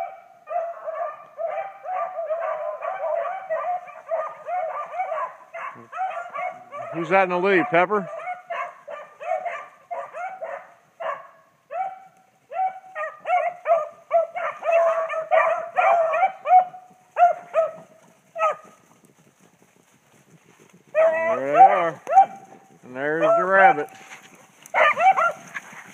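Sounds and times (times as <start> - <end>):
dogs baying: 0.0 - 19.0, 20.8 - 25.9.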